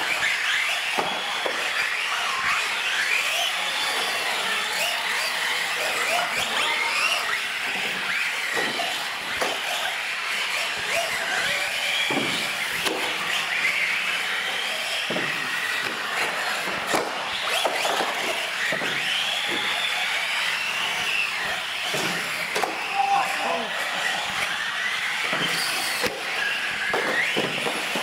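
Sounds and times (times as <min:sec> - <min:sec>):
rc truck motors whining: 0:00.0 - 0:28.0.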